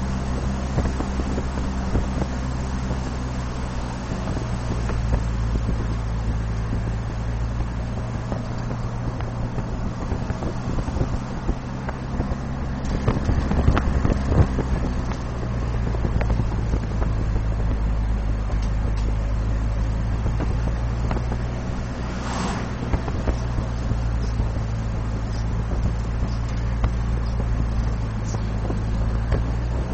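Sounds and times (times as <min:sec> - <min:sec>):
car road and engine rumble: 0:00.0 - 0:29.9
wind: 0:00.0 - 0:29.9.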